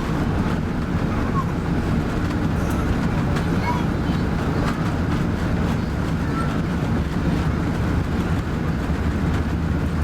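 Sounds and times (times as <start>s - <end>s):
jet engines rumbling in cabin: 0.0s - 10.0s.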